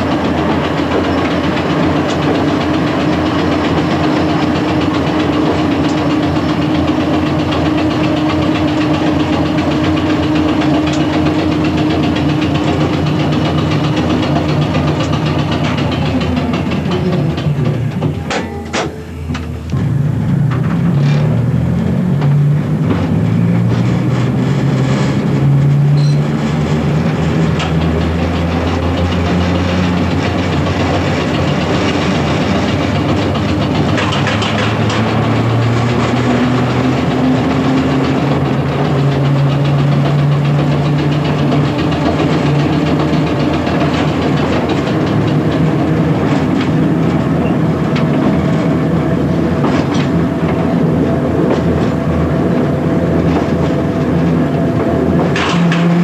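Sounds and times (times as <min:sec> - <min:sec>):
electric train motor hum: 0:00.0 - 0:56.0
train running noise: 0:00.0 - 0:56.0.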